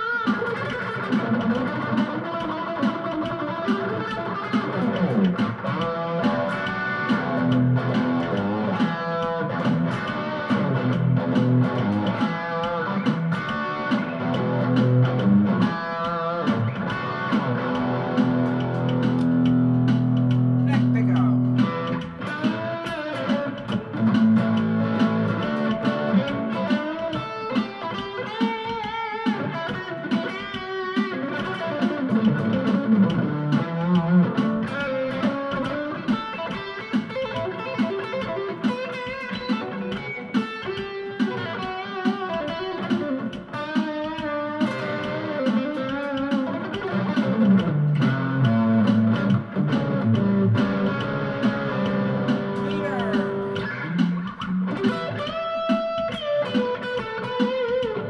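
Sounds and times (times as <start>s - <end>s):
electric guitar lead with vibrato: 0.0s - 58.0s.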